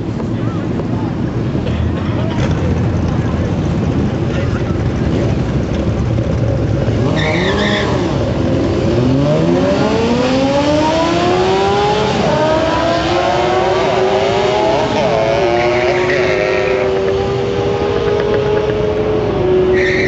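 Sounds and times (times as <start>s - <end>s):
car and motorcycle accelerating hard: 2.3s - 20.0s.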